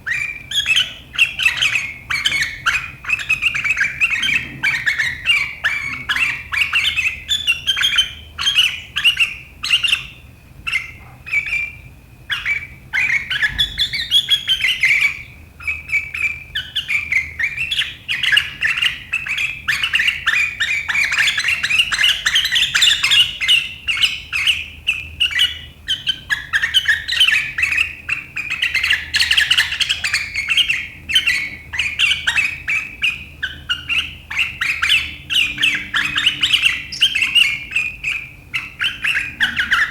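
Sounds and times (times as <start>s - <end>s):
bird chattering calls: 0.1s - 39.9s.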